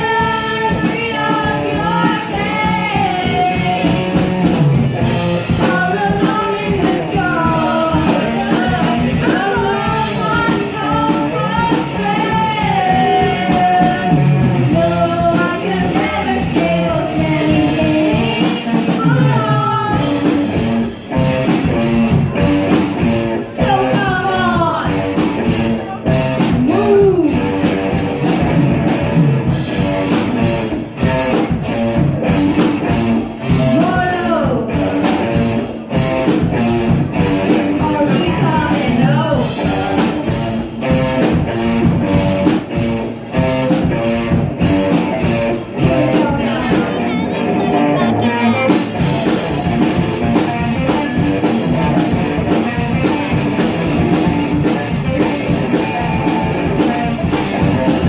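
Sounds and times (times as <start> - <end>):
person singing: 0.0 - 4.4, 5.2 - 20.8, 22.3 - 27.7, 32.4 - 41.4, 44.7 - 58.0
rock band playing: 0.0 - 58.0.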